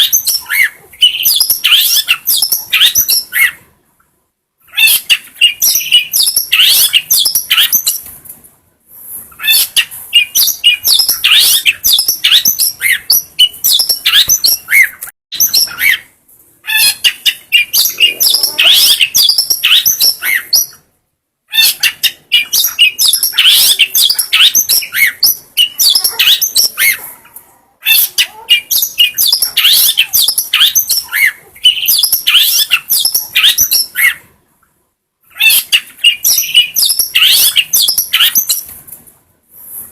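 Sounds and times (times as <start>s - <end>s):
bird singing chirps and trills: 0.0s - 3.6s, 4.7s - 8.0s, 9.4s - 16.1s, 16.7s - 20.8s, 21.5s - 27.0s, 27.8s - 34.2s, 35.3s - 38.7s.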